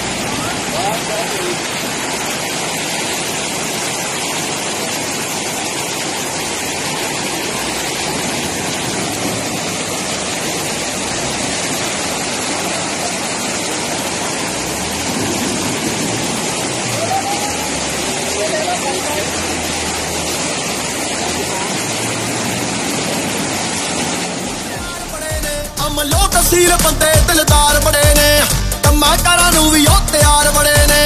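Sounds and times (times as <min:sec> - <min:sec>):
fast river rushing: 0:00.0 - 0:31.0.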